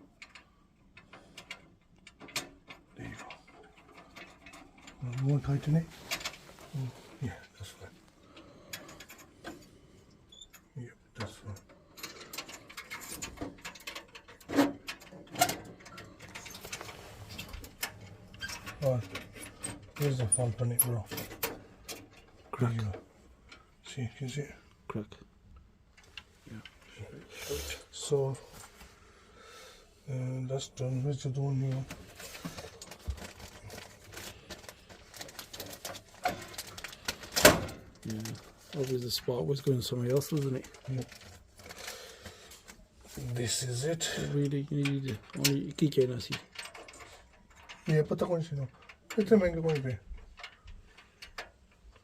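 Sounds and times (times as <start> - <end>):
tools clicking and rattling: 0.0 - 6.8, 8.2 - 9.8, 10.5 - 23.7, 31.5 - 52.0.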